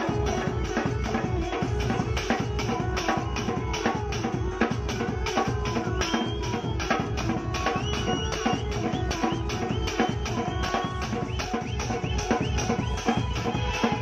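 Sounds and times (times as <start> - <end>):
dance music with drum beat: 0.0 - 14.0.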